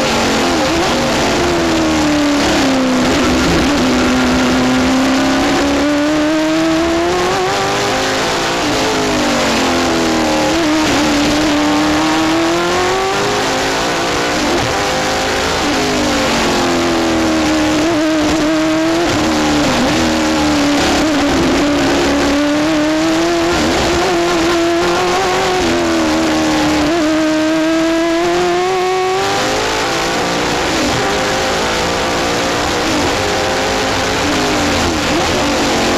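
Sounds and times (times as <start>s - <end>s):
race car engine revving through gears: 0.0s - 35.9s
wind and road noise: 0.0s - 35.9s.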